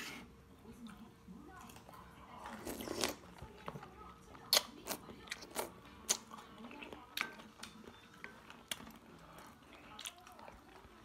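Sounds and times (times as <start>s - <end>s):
chewing: 0.6s - 11.0s.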